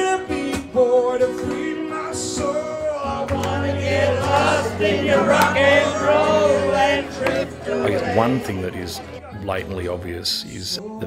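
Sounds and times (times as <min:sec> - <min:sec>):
backing music: 0:00.0 - 0:11.0
man singing into a microphone: 0:00.0 - 0:11.0.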